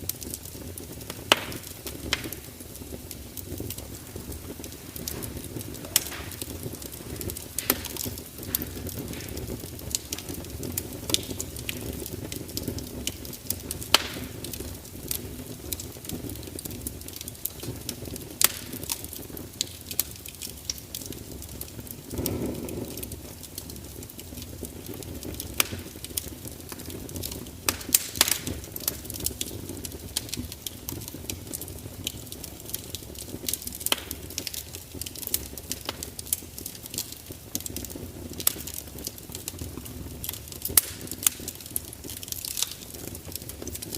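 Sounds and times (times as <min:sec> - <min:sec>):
fire crackling and popping: 0:00.0 - 0:43.9
rush of flames: 0:00.0 - 0:43.9.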